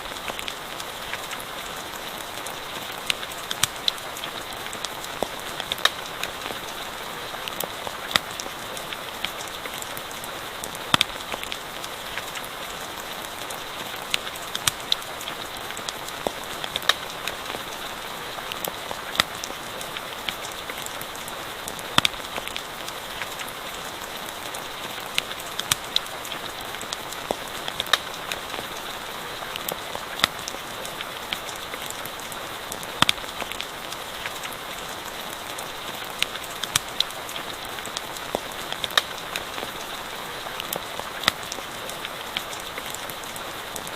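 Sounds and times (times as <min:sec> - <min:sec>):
campfire crackling: 0:00.0 - 0:43.9
rain hiss: 0:00.0 - 0:43.9.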